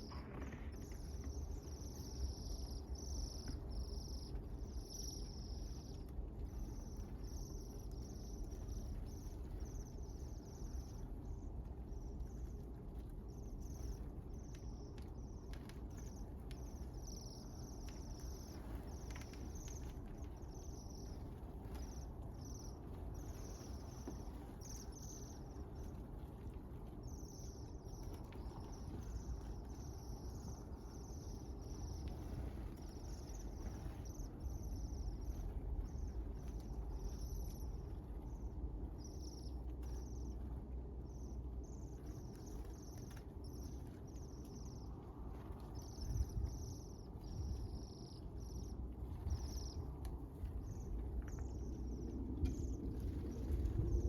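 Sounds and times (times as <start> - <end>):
low rumble of wind: 0.0 - 54.0
small birds chirping: 0.0 - 54.0.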